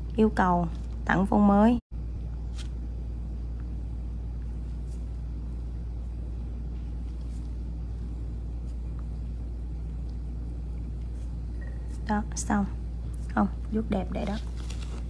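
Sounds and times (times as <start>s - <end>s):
low-pitched hum: 0.0s - 15.0s.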